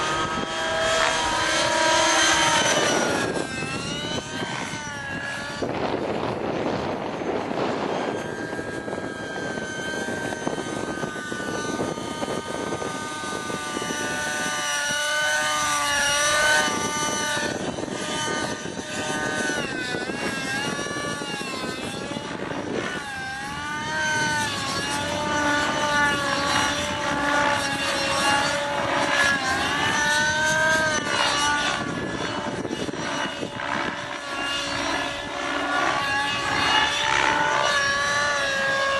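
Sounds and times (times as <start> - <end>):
model helicopter engine whining: 0.0 - 38.9.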